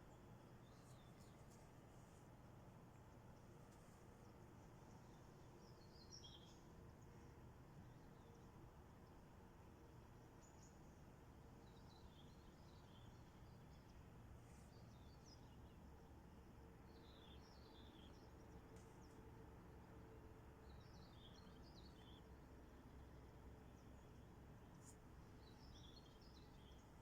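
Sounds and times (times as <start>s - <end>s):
faint low outdoor rumble: 0.0s - 27.0s
songbird chirping: 0.0s - 27.0s.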